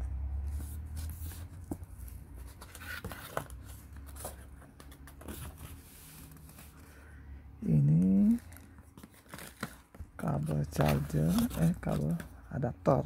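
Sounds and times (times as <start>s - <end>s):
cardboard rustling: 0.5s - 6.9s, 8.0s - 12.4s.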